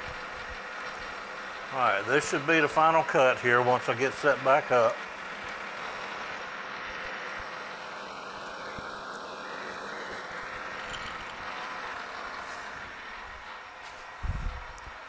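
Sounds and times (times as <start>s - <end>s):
metal lathe cutting steel: 0.0s - 15.0s.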